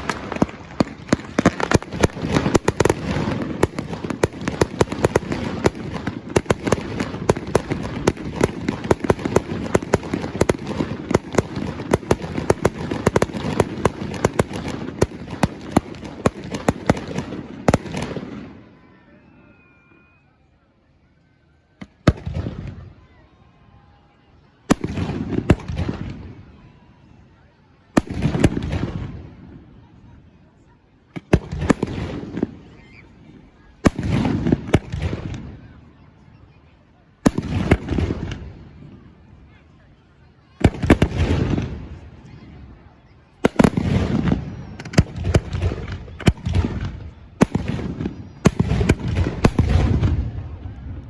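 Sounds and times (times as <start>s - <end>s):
fireworks bangs: 0.0s - 18.8s, 21.8s - 23.0s, 24.7s - 26.6s, 27.9s - 30.2s, 31.1s - 35.9s, 37.2s - 39.6s, 40.5s - 51.0s.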